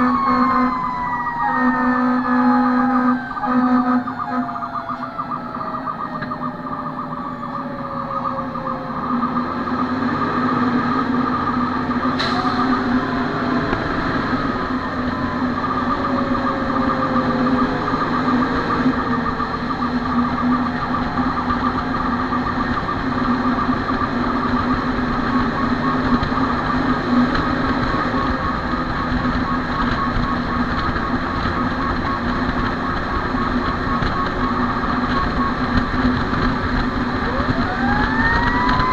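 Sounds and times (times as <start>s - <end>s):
fire engine droning: 0.0s - 38.9s
siren winding down: 0.0s - 38.9s.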